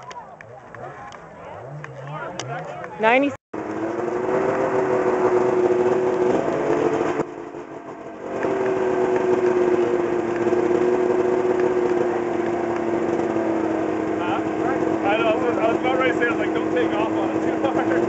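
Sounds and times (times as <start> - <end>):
snowmobile engine idling: 0.3 - 18.0.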